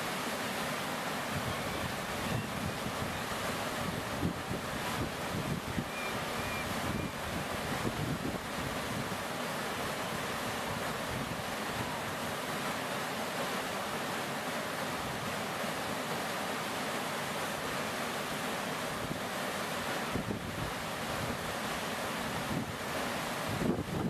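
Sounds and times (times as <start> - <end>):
river water rushing over riffles: 0.0 - 24.0.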